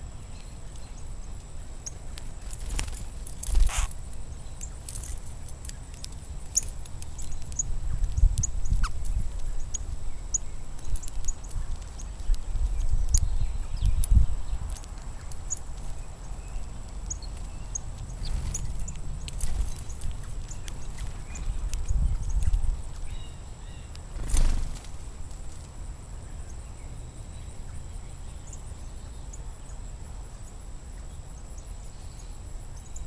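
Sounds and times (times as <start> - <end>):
small birds chipping: 0.0 - 33.0.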